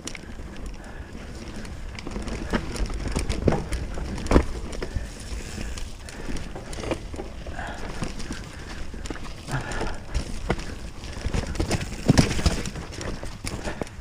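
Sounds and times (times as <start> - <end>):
bike clattering over rough ground: 0.0 - 14.0.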